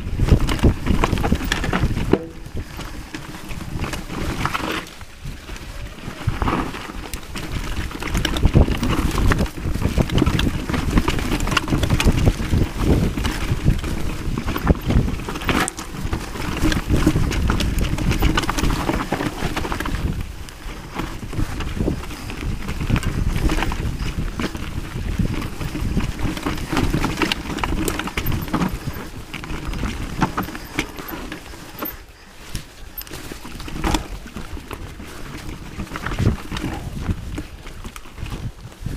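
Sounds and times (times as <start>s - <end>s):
bike knocking and rattling: 0.0s - 38.9s
bike tyres rolling over dirt: 0.0s - 38.9s
wind on microphone: 0.0s - 38.9s.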